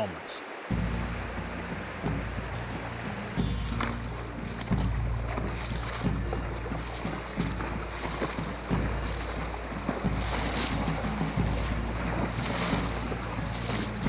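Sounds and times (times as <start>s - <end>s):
horses splashing through water: 0.0s - 14.0s
river current rushing: 0.0s - 14.0s.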